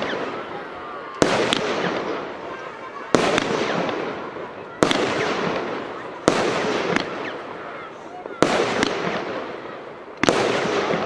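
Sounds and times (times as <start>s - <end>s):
firework crackling: 0.0s - 11.0s
firework reports: 0.0s - 11.0s.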